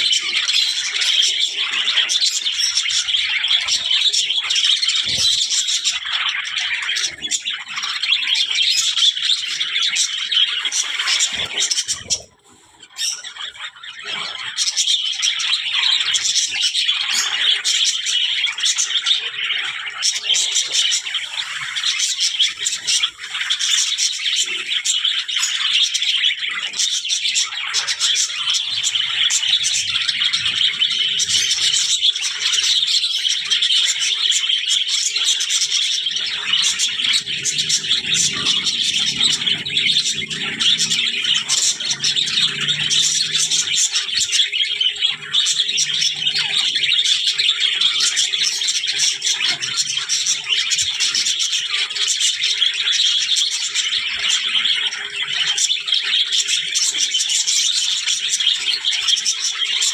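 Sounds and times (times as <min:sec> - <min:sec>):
budgerigars chattering and warbling: 0:00.0 - 0:59.9.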